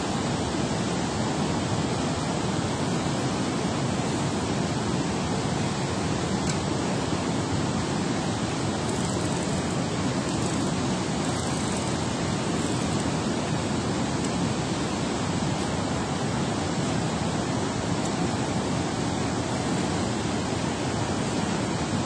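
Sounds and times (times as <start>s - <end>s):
water rushing from spillway: 0.0s - 8.9s, 9.6s - 11.2s, 11.9s - 22.0s.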